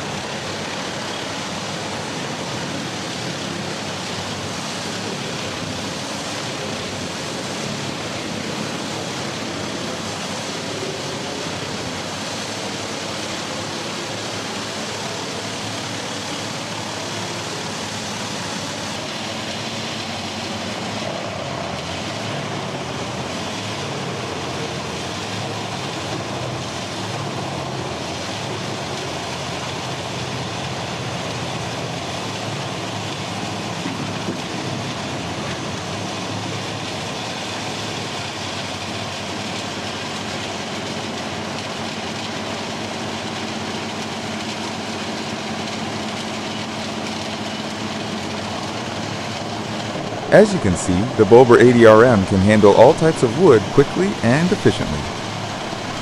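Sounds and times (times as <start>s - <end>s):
wood chipper running: 0.0s - 51.2s, 53.6s - 56.0s.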